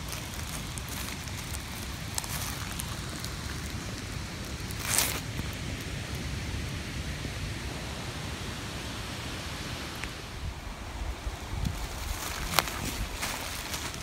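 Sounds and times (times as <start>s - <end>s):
rustling of leaf litter and twigs: 0.0s - 7.3s, 9.8s - 14.0s
wind rumble on microphone: 0.0s - 14.0s.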